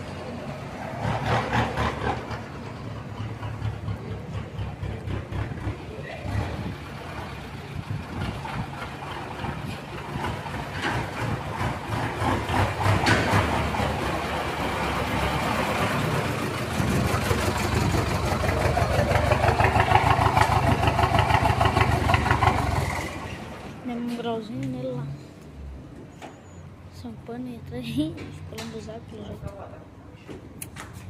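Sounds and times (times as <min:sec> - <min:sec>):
diesel truck engine: 0:00.0 - 0:31.0.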